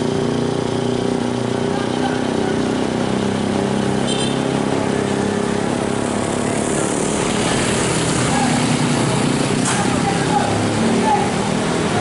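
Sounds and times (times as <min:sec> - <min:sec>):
motorcycle passing: 0:00.0 - 0:12.0.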